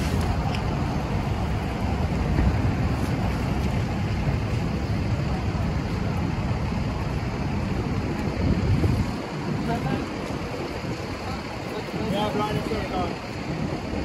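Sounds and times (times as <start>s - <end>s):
fire engine motor and pump rumble: 0.0s - 14.0s.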